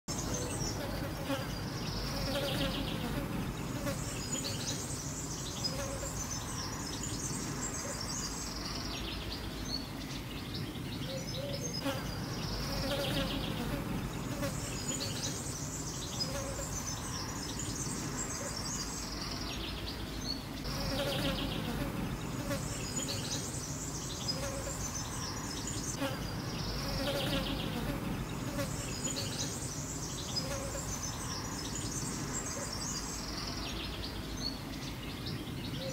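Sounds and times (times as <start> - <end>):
flying insects buzzing: 0.1 - 8.9, 11.8 - 19.5, 20.6 - 34.2.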